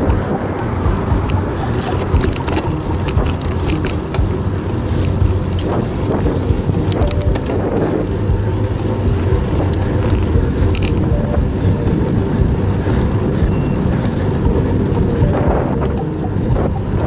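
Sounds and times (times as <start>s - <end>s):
tyre rumble on asphalt: 0.0s - 14.9s
bike clicks and rattles: 0.0s - 17.0s
wind buffeting microphone: 0.0s - 17.0s.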